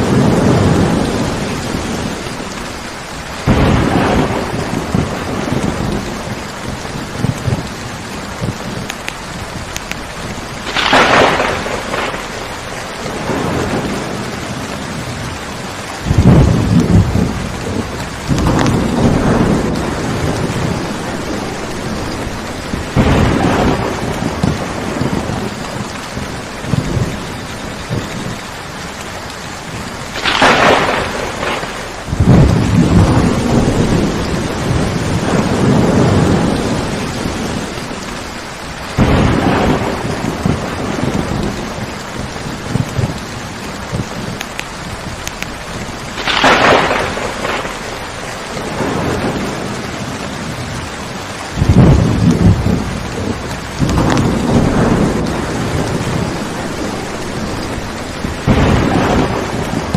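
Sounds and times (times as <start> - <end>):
steady rain: 0.0 - 59.9
thunder cracking and rumbling: 0.0 - 59.9.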